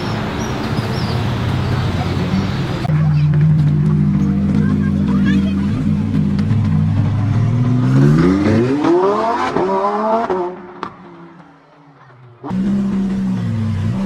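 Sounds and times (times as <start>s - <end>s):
another car engine: 0.0s - 14.0s
sports car engine revving: 1.0s - 11.4s, 12.4s - 14.0s.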